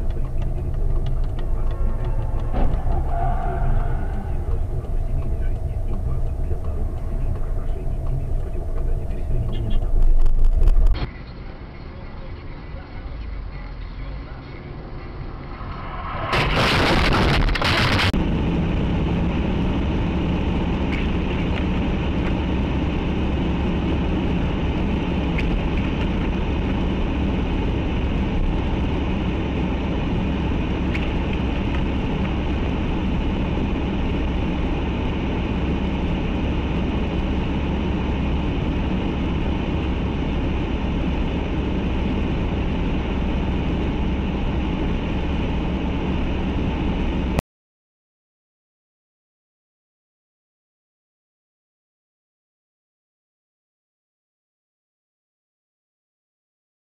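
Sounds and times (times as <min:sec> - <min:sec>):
moving vehicle road noise: 0:00.0 - 0:47.4.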